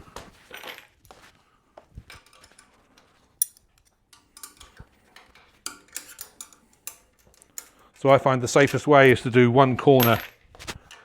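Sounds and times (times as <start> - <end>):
clicks and clinks of metal parts: 2.1 - 11.0.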